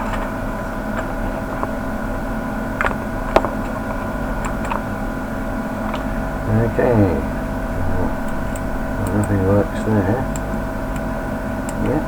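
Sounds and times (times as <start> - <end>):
steady tonal hum: 0.0 - 12.0.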